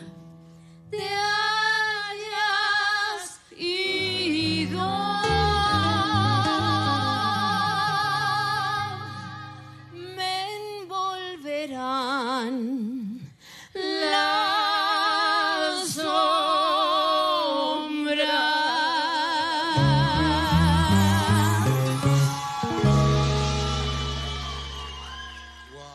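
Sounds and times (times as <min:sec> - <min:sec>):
two women singing in duet: 0:00.9 - 0:22.4.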